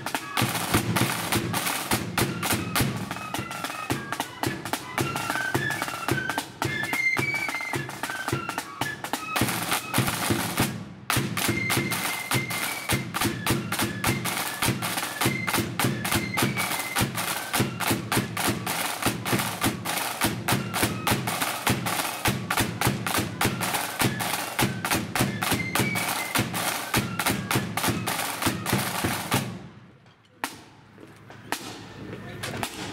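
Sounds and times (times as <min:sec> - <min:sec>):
flute melody: 0:00.0 - 0:29.5
snare drum rolls: 0:00.0 - 0:29.8, 0:31.5 - 0:32.9.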